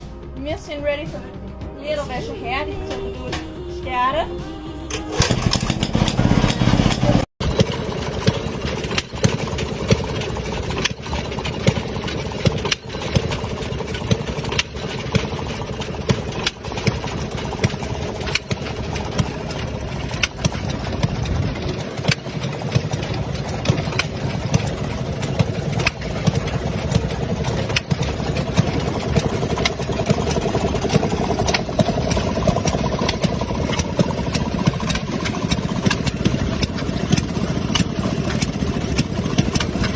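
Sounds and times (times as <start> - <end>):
washing machine engine chugging: 4.9 - 39.9
sharp clacks: 5.2 - 39.9.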